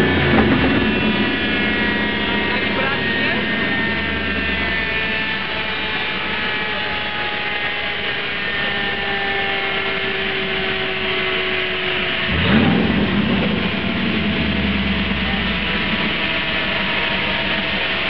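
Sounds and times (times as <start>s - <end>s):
car engine revving: 0.0s - 18.0s
dyno rollers whine: 0.0s - 18.0s.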